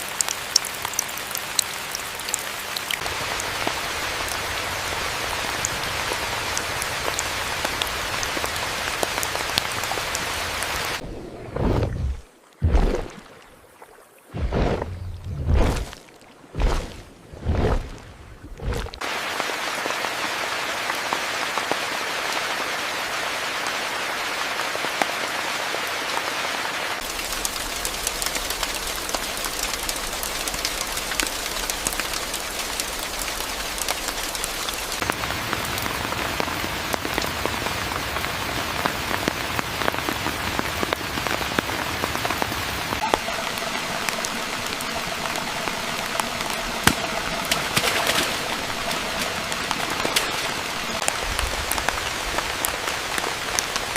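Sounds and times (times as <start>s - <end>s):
steady rain falling: 0.0s - 11.0s, 19.0s - 53.9s.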